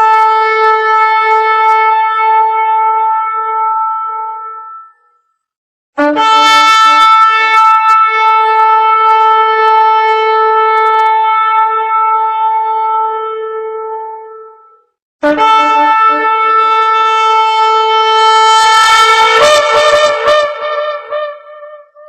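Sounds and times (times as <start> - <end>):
trumpet long held note: 0.0 - 5.0, 6.0 - 22.0.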